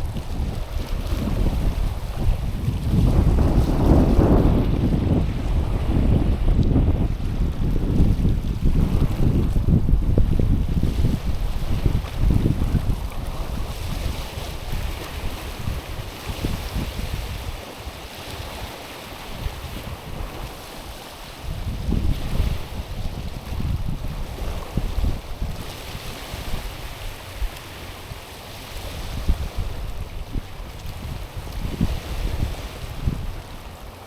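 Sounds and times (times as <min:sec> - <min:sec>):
waves washing over pebbly shore: 0:00.0 - 0:34.0
wind rumble on microphone: 0:00.0 - 0:34.0.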